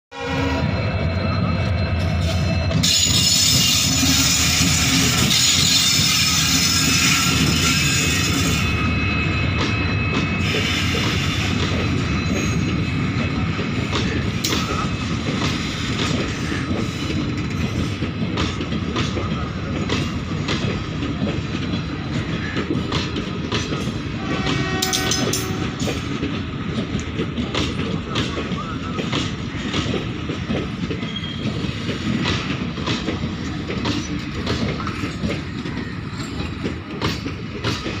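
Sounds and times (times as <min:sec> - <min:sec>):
continuous train rumble: 0:00.1 - 0:38.0.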